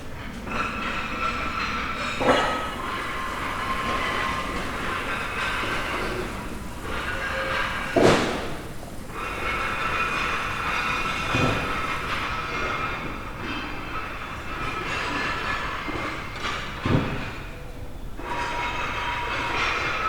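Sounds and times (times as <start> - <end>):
machinery hum with whining: 0.0 - 20.0.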